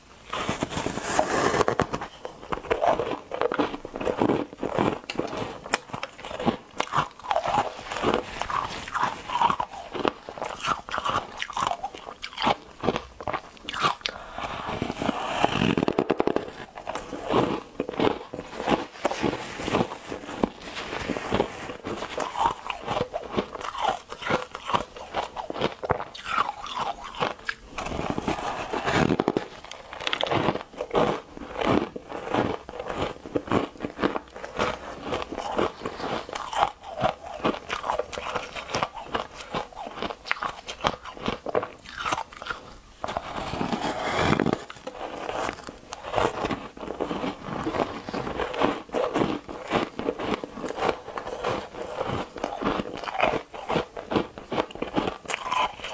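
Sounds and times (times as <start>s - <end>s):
ice crunching while chewed: 0.2s - 55.9s.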